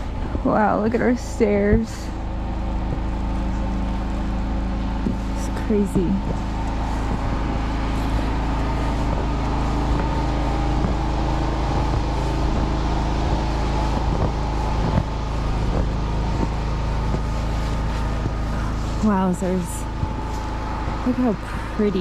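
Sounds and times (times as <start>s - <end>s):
generator running: 0.0s - 22.0s.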